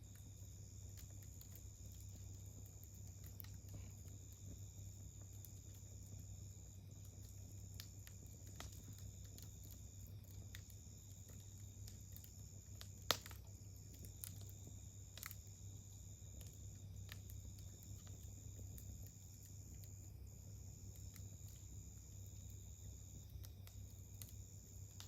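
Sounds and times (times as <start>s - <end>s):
campfire crackling: 0.0s - 25.0s
fire popping: 0.0s - 25.0s.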